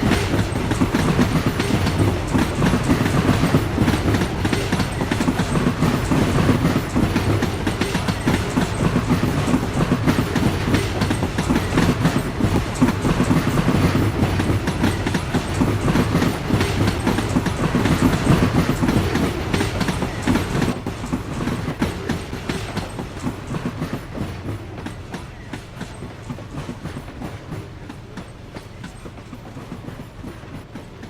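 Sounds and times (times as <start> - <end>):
train coaches rolling past: 0.0 - 31.0
wheels clicking on track: 0.0 - 31.0.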